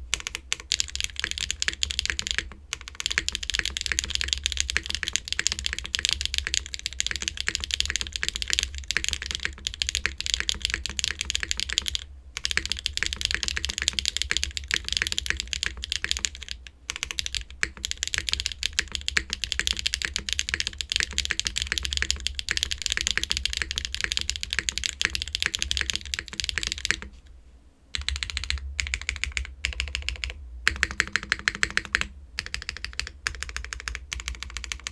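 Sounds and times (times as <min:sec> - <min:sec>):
mechanical keyboard typing: 0:00.1 - 0:27.1, 0:28.0 - 0:34.9.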